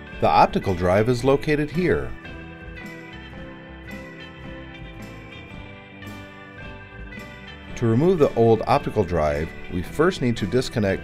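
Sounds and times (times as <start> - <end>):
background music with sustained notes: 0.0 - 11.0.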